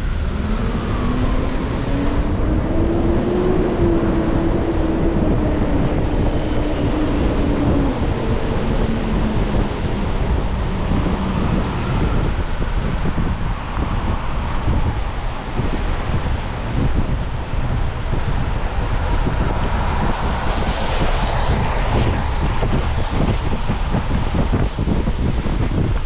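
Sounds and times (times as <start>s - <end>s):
tyres on wet road: 0.0s - 26.0s
wind noise on microphone: 0.0s - 26.0s.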